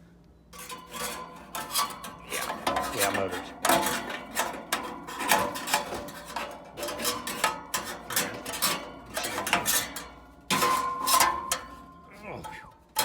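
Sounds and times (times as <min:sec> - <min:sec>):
metallic scraping and clanking: 0:00.6 - 0:13.0.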